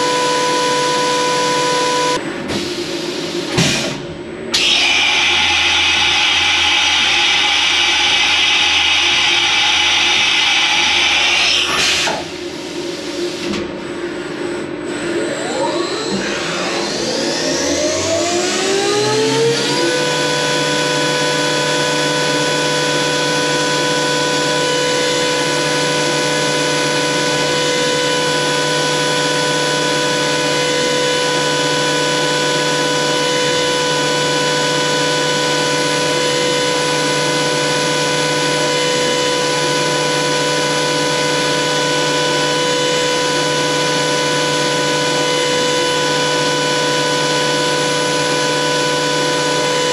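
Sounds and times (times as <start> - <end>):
machine spindle whine: 0.0 - 2.2, 3.2 - 49.9.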